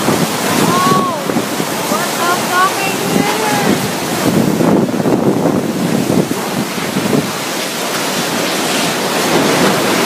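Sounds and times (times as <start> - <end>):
heavy rain: 0.0 - 10.0
strong wind: 0.0 - 10.0
wind buffeting microphone: 0.0 - 10.0.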